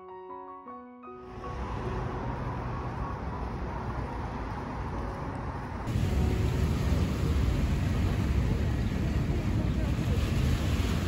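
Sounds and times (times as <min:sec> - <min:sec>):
low outdoor rumble: 0:01.3 - 0:11.0.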